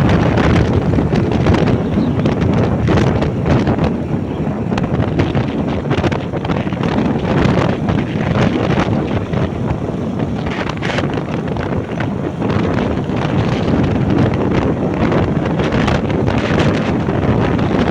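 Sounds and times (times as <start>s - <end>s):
motorbike riding rumble: 0.0s - 17.9s
wind buffeting microphone: 0.0s - 17.9s.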